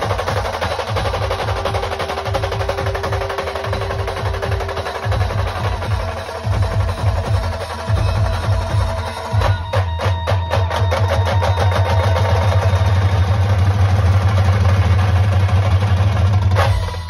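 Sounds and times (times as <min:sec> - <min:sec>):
snare drum roll: 0:00.0 - 0:17.0.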